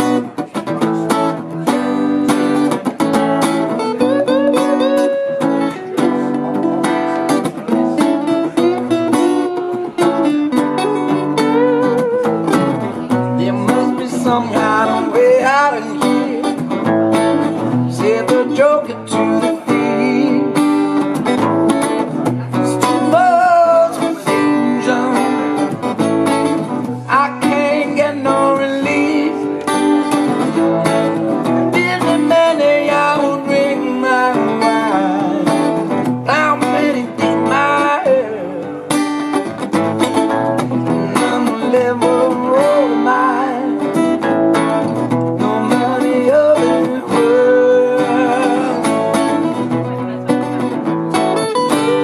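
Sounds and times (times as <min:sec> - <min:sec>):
man singing: 0:00.0 - 0:50.3, 0:51.6 - 0:52.0
acoustic guitars strummed and picked: 0:00.0 - 0:52.0.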